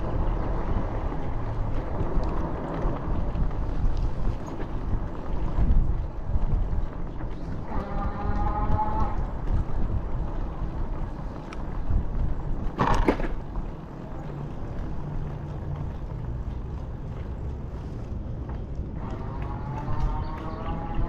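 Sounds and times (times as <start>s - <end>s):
bicycle riding rumble: 0.0s - 21.0s.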